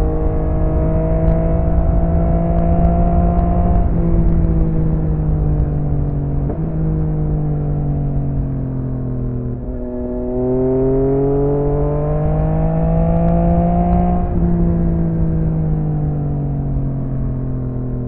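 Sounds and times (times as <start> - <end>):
motorcycle engine running: 0.0 - 18.0
wind rumbling on microphone: 0.0 - 18.0.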